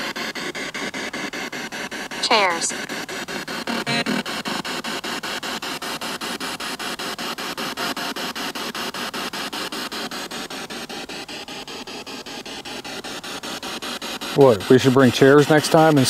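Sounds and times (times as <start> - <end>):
pulsing radio static: 0.0 - 16.0.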